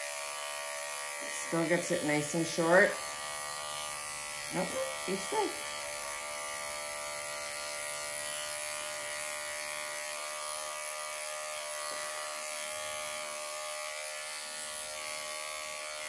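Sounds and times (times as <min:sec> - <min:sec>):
electric clipper buzzing: 0:00.0 - 0:16.0.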